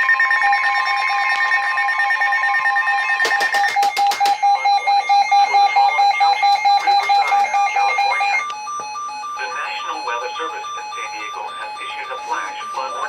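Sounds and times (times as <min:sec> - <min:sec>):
rapidly pulsing alert beeps: 0:00.0 - 0:13.0
steady alert tone: 0:02.4 - 0:13.0.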